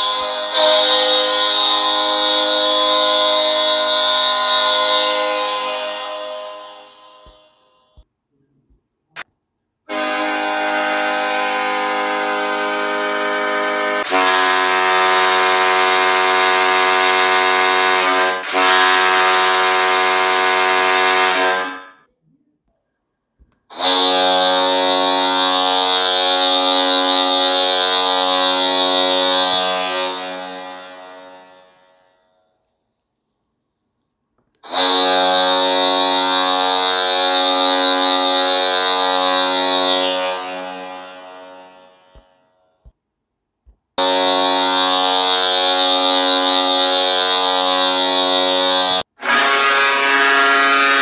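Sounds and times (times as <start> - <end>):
goal horn blasts: 0.0 - 8.0, 9.9 - 22.0, 23.7 - 32.4, 34.6 - 42.9, 44.0 - 51.0.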